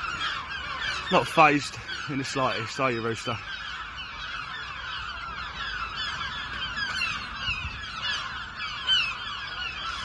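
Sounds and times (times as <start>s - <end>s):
gulls alarm calling: 0.0s - 10.0s.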